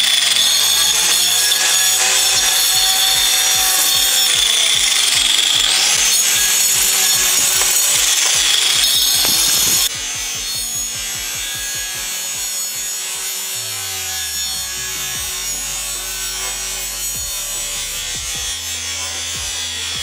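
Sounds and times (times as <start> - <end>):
angle grinder cutting ice: 0.0 - 20.0.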